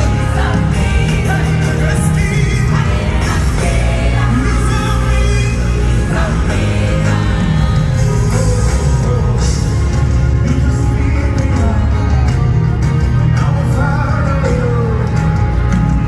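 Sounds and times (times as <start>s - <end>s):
heavy steady bass: 0.0s - 16.0s
live worship band: 0.0s - 16.0s
person singing: 0.0s - 16.0s.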